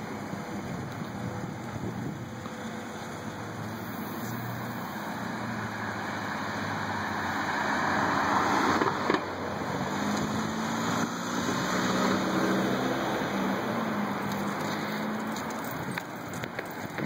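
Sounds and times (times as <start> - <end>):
car passing on wet road: 2.6 - 17.0.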